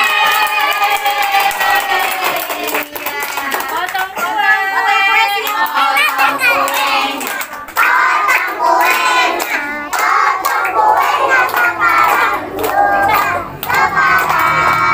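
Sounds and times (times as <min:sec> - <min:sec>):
hands clapping: 0:00.0 - 0:04.4, 0:05.2 - 0:14.9
group singing together: 0:00.0 - 0:14.9.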